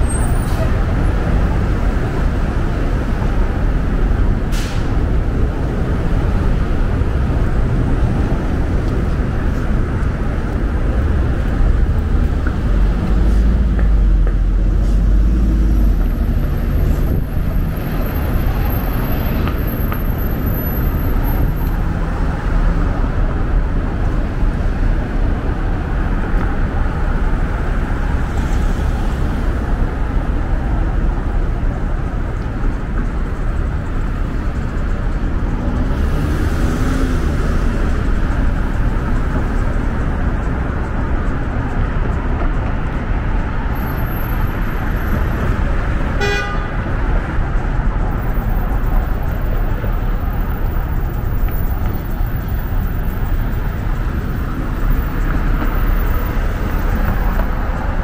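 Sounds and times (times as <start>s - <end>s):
deep traffic rumble: 0.0s - 58.0s
passing vehicles engine and tyre noise: 0.0s - 58.0s.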